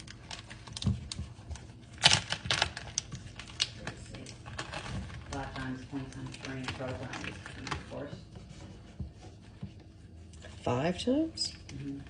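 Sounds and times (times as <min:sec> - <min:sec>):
food wrap crackling when handled: 0:00.0 - 0:10.7.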